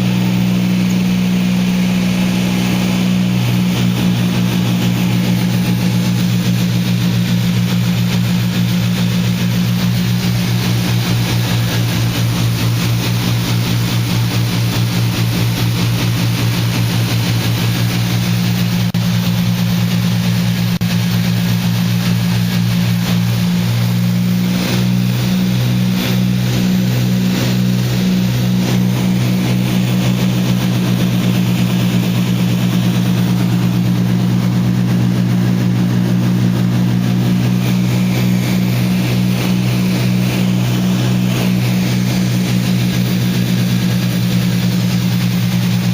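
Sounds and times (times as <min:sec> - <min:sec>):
twin piston engines droning: 0:00.0 - 0:45.9.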